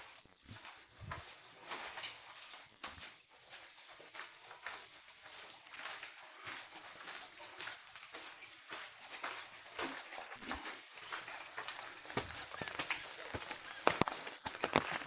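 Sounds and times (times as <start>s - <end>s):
faint footsteps walking: 0.0s - 15.0s.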